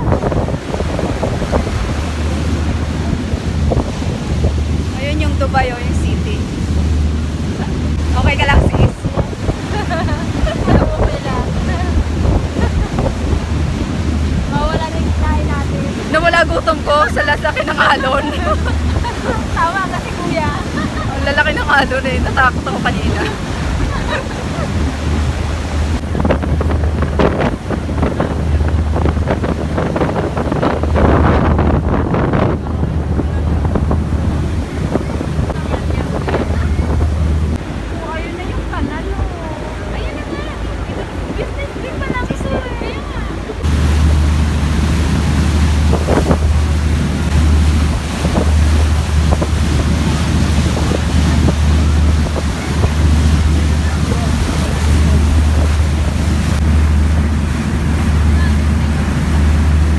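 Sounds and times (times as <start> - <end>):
steady low rumble: 0.0 - 59.9
water rushing past hull: 0.0 - 59.9
waves splashing against boat: 0.0 - 59.9
wind buffeting microphone: 0.0 - 59.9.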